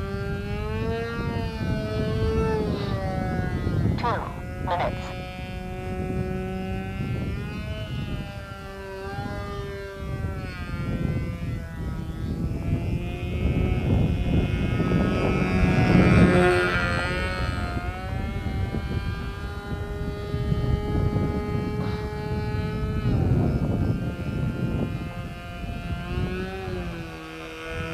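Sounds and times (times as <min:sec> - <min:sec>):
model plane engine buzzing overhead: 0:00.0 - 0:27.9
wind rumble on microphone: 0:00.0 - 0:27.9.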